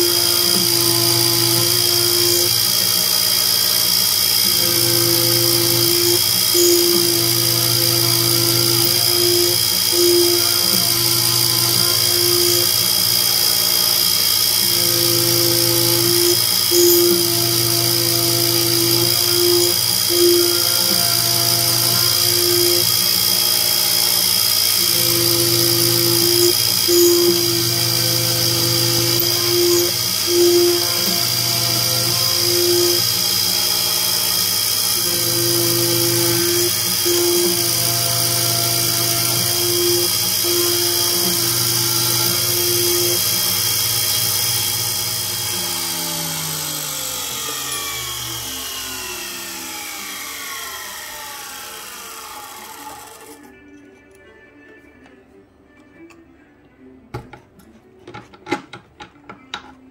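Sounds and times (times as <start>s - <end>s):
lower hum: 0.0s - 50.6s
milling machine spindle whine: 0.0s - 53.6s.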